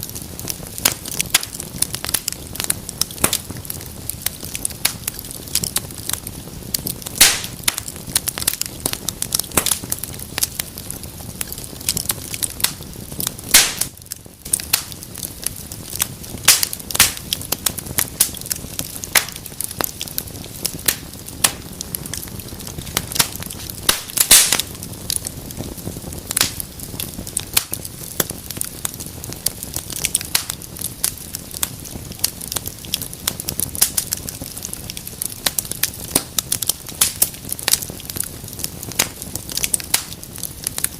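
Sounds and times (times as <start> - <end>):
sharp pops of fire: 0.0 - 40.9
wood fire crackling: 0.0 - 40.9.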